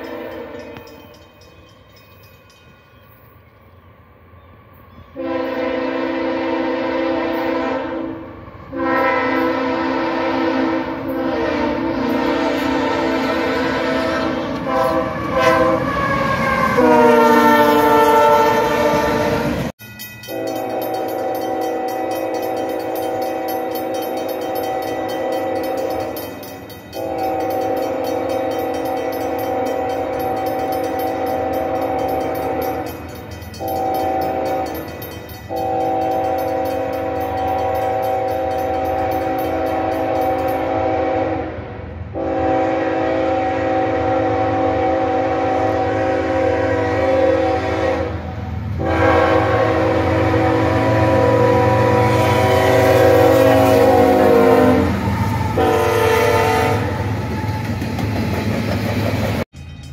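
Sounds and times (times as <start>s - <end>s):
locomotive horn blasts: 0.0s - 1.1s, 5.2s - 19.7s, 20.3s - 57.6s
multi-chime locomotive horn: 0.0s - 3.6s, 5.1s - 57.8s.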